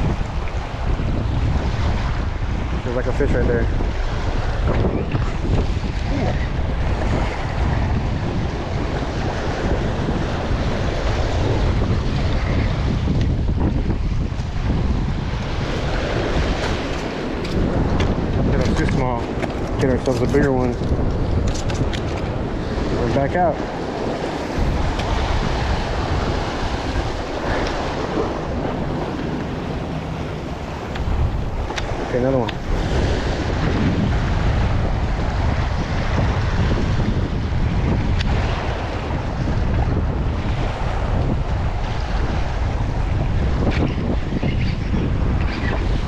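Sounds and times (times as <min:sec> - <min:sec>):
surf splashing against rocks: 0:00.0 - 0:43.8
wind buffeting microphone: 0:00.0 - 0:46.0.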